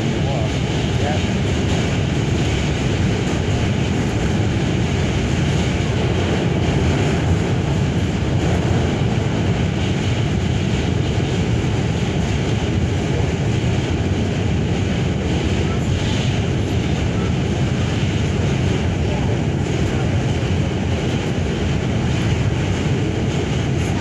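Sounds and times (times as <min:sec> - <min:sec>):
subway wheels rumbling on rail: 0:00.0 - 0:24.0.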